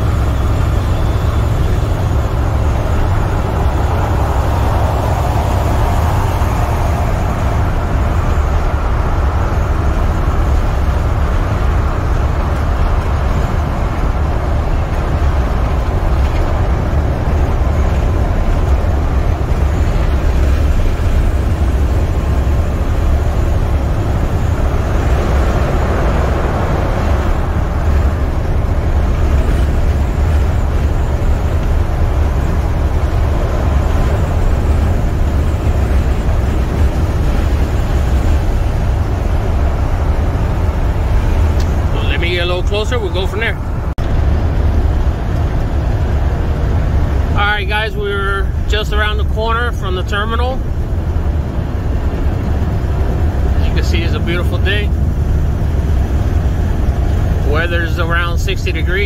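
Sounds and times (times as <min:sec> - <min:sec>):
truck diesel engine drone: 0:00.0 - 0:59.0
tyre and road noise: 0:00.0 - 0:59.0.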